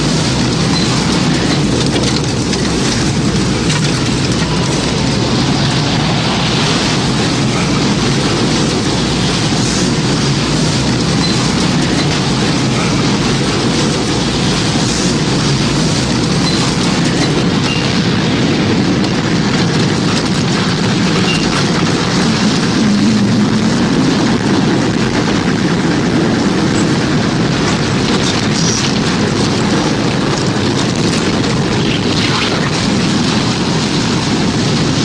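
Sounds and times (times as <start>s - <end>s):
deep rushing wind: 0.0s - 35.0s.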